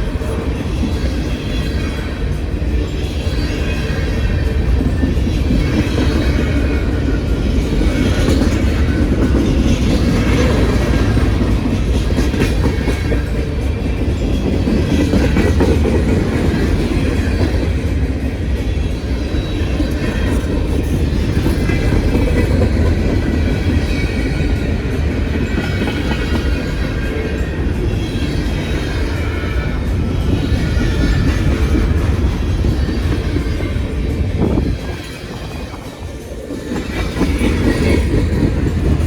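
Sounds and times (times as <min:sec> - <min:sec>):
clickety-clack of rail joints: 0:00.0 - 0:39.0
freight train wheels rumbling: 0:00.0 - 0:39.0.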